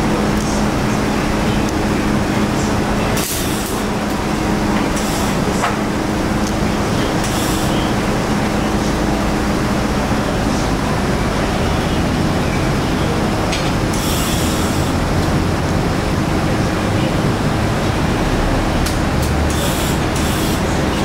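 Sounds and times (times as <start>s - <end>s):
workshop machinery hum: 0.0s - 21.0s.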